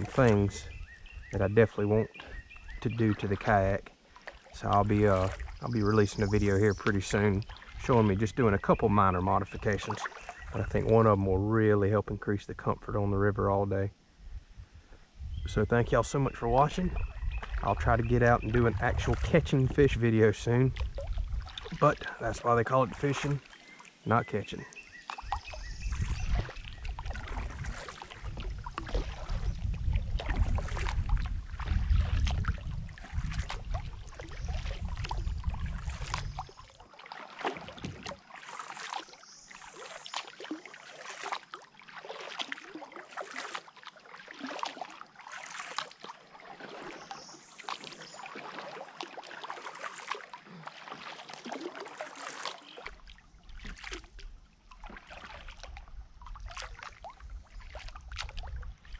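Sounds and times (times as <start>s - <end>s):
paddle splashing in water: 0.0s - 11.5s, 16.0s - 58.9s.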